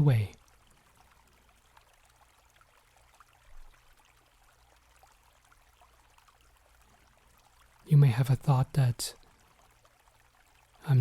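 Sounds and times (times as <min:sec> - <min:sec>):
faint trickling stream: 0:00.0 - 0:11.0
low steady hum: 0:00.0 - 0:11.0.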